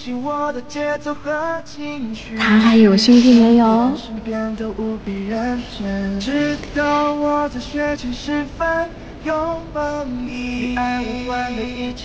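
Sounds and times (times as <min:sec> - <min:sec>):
person singing slow melody: 0:00.0 - 0:12.0.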